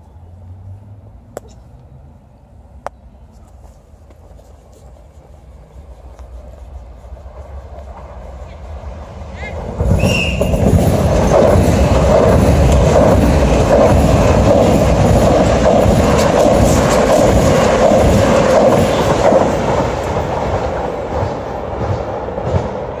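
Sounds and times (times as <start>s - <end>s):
train wheels rumbling on rails: 3.2s - 23.0s.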